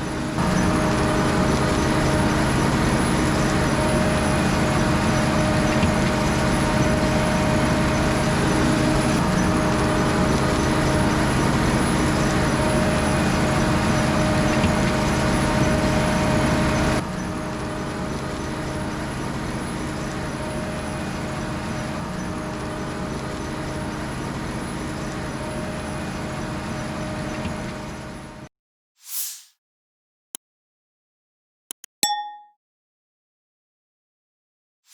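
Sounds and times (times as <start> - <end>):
farm machinery running with whine: 0.0 - 28.5.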